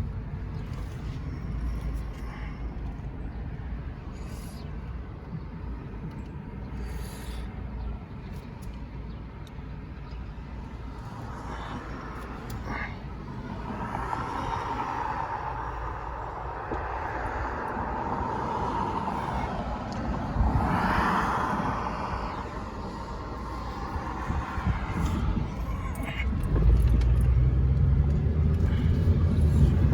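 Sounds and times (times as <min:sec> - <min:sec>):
car engine and tyres rumbling: 0:00.0 - 0:29.9.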